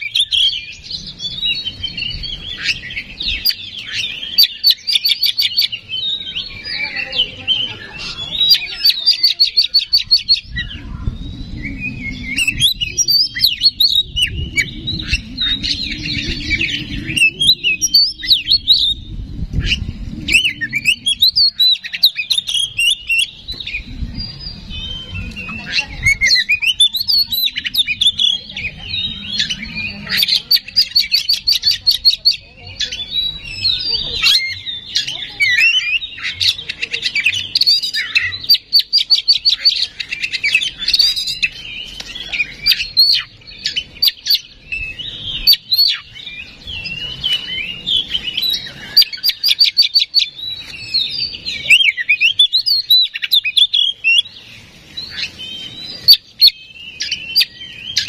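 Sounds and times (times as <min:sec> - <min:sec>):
bird chattering trills: 0:00.0 - 0:58.0
songbird whistling song: 0:00.0 - 0:58.0.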